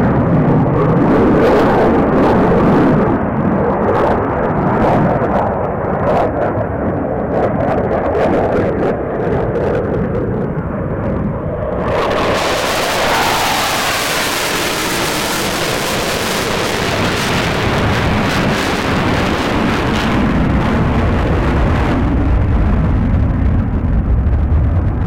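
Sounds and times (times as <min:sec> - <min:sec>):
jet engine rumble: 0:00.0 - 0:25.0.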